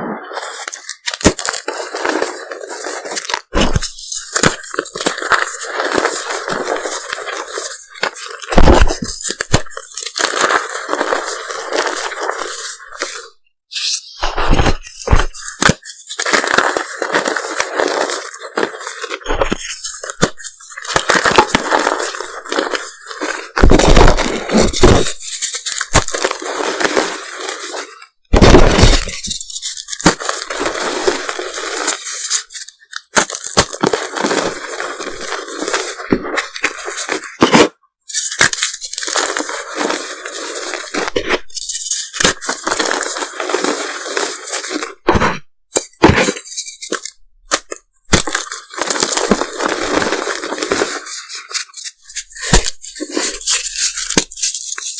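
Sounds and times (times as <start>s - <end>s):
chalk crackling and crunching: 0.3s - 54.9s.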